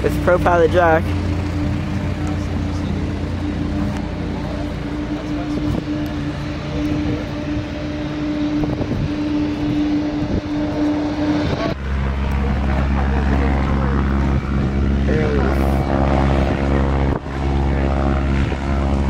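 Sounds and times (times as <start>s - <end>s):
propeller plane engine drone: 0.0s - 19.0s
small motorcycle engine running: 0.0s - 19.0s.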